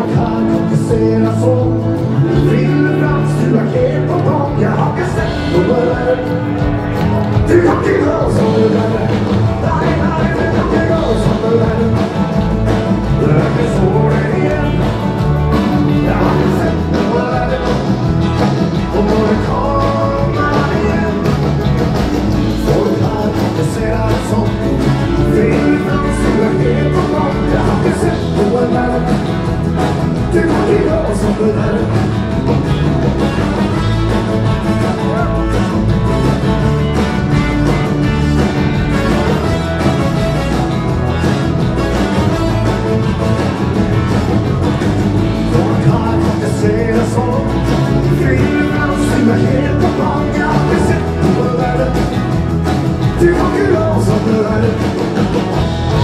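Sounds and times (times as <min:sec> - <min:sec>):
person singing: 0:00.0 - 0:34.2, 0:45.3 - 0:56.0
electric guitar: 0:00.0 - 0:56.0
live rock band playing: 0:00.0 - 0:56.0.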